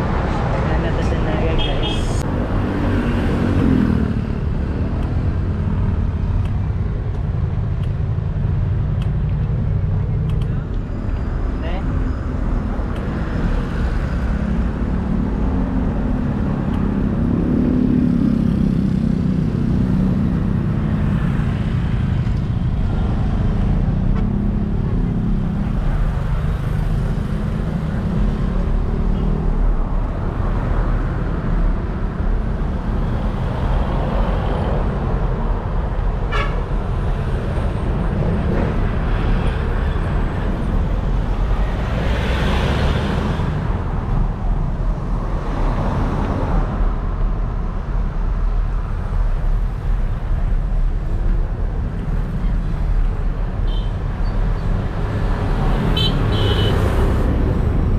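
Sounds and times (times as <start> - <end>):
road traffic rumble: 0.0 - 57.9.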